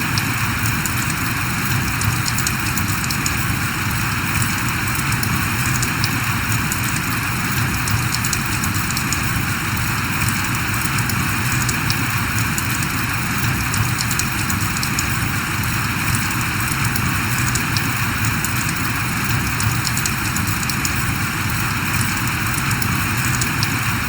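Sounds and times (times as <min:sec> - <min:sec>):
raindrops ticking: 0:00.0 - 0:24.0
steady rain hiss: 0:00.0 - 0:24.0.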